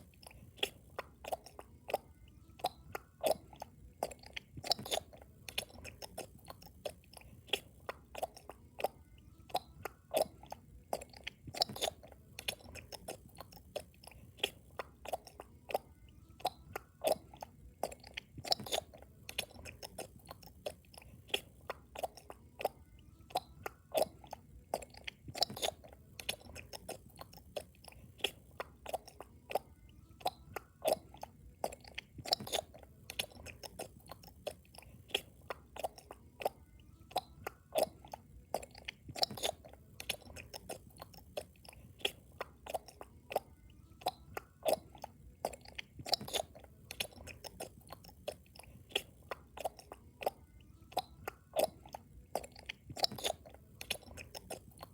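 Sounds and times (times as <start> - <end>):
loud wet chewing: 0.0 - 54.9.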